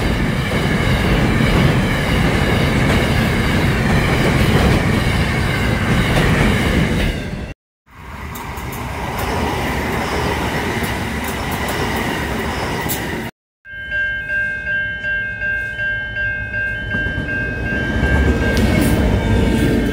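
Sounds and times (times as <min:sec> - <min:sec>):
freight locomotive rumble: 0:00.0 - 0:13.3, 0:16.6 - 0:19.9
electric train passing: 0:00.0 - 0:19.9.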